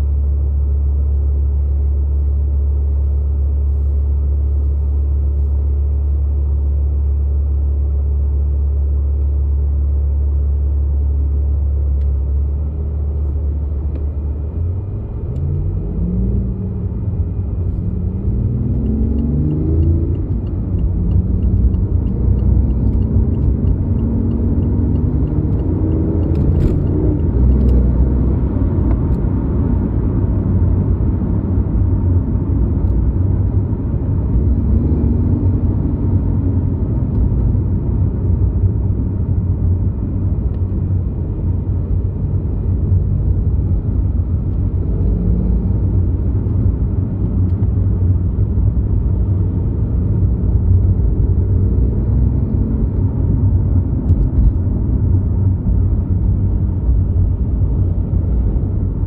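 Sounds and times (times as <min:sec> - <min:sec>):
car driving rumble: 0:00.0 - 0:59.0.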